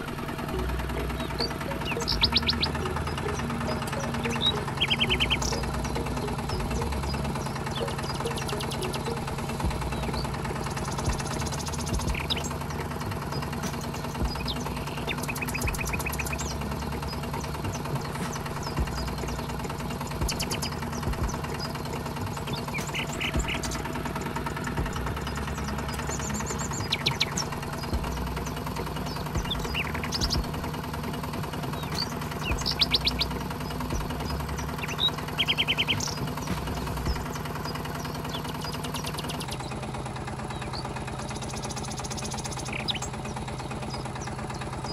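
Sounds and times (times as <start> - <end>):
small motor humming: 0.0 - 44.9.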